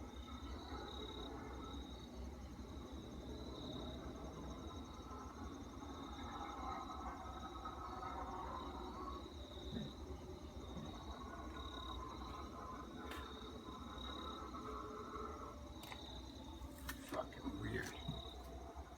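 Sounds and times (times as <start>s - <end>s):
crickets trilling: 0.0s - 18.9s
faint wavering drone: 0.0s - 18.9s.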